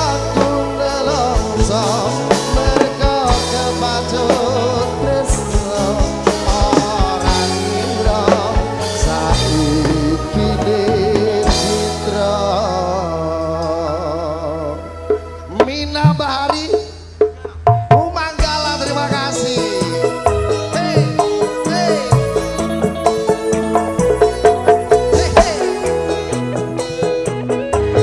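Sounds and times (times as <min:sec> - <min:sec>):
male singer: 0:00.0 - 0:23.4, 0:24.0 - 0:26.4
live band playing: 0:00.0 - 0:28.0.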